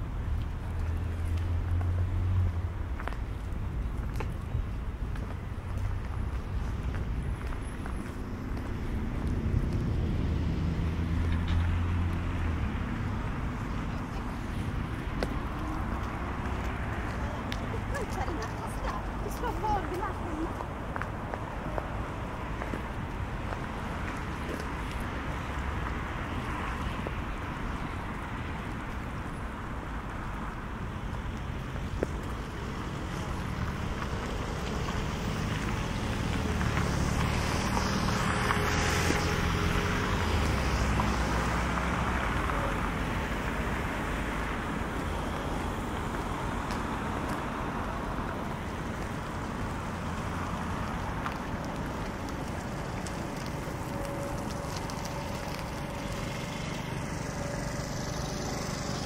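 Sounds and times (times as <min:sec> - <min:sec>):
traffic rumble: 0:00.0 - 0:59.0
vehicle passing: 0:04.4 - 0:59.0.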